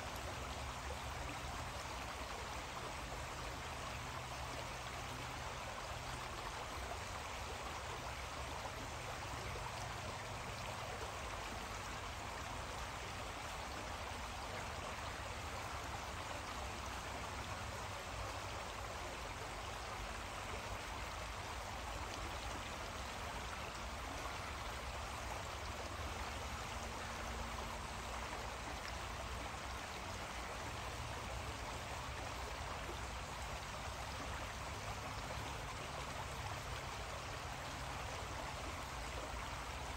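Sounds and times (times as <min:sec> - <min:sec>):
small creek flowing: 0:00.0 - 0:39.9.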